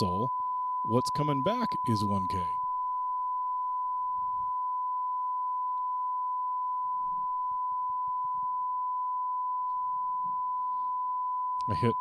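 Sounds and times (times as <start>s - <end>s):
steady sine test tone: 0.0s - 12.0s.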